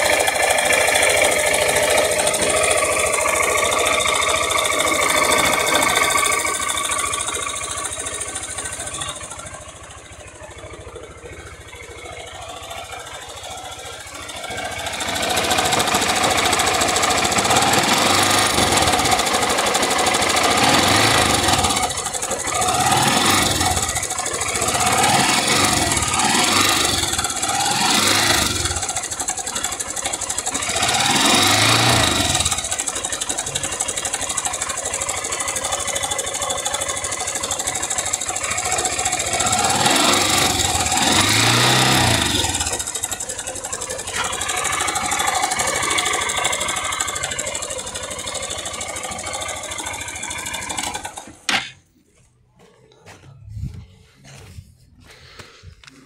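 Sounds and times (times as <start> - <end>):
rattling engine knock: 0.0 - 52.0
motorcycle engine running: 0.0 - 56.0.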